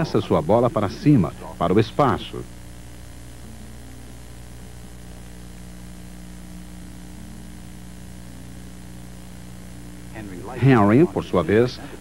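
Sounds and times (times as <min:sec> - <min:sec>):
constant hiss: 0:00.0 - 0:12.0
low electronic hum: 0:00.0 - 0:12.0.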